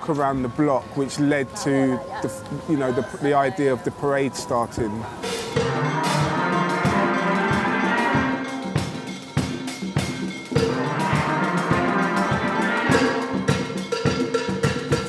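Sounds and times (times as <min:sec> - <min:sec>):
steel band playing: 0:00.0 - 0:15.0.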